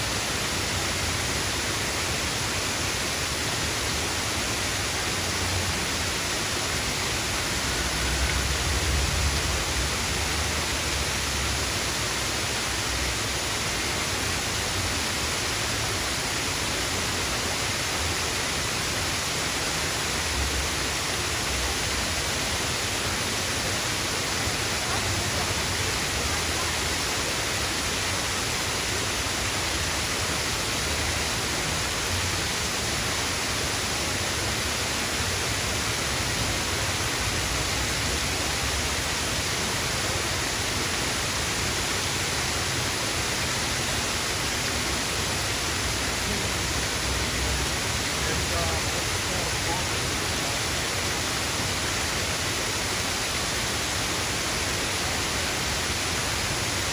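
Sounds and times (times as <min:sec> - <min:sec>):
small waterfall splashing: 0:00.0 - 0:56.9.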